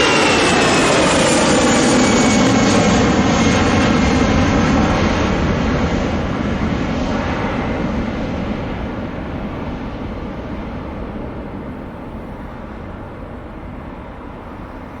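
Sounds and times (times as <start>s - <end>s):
jet engine noise: 0.0s - 15.0s.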